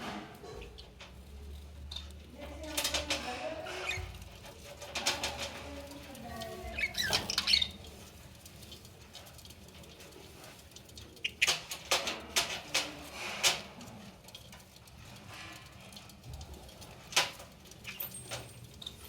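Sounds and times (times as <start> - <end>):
birds scratching and tapping: 0.0 - 19.0.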